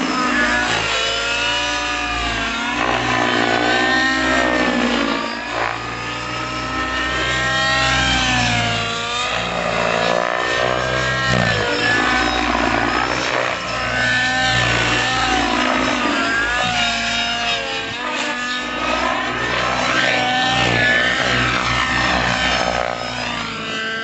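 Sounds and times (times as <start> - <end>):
model nitro engine revving: 0.0 - 24.0.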